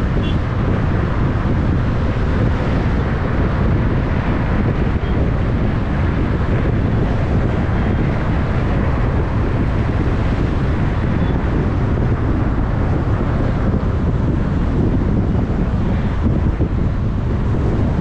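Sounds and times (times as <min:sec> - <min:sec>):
vehicle road and traffic noise: 0:00.0 - 0:18.0
wind rushing over microphone: 0:00.0 - 0:18.0.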